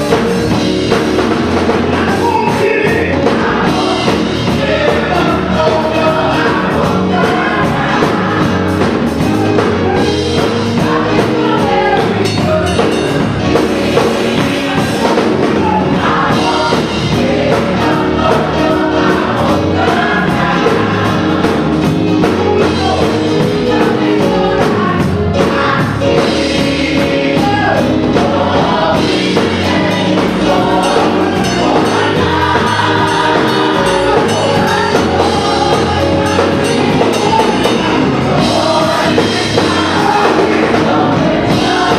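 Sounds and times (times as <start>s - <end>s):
church band playing: 0.0s - 41.9s
gospel choir singing: 0.0s - 41.9s.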